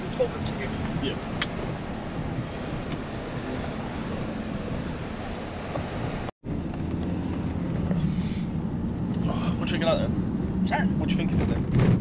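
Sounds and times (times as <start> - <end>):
engine and road noise inside van: 0.0 - 12.0.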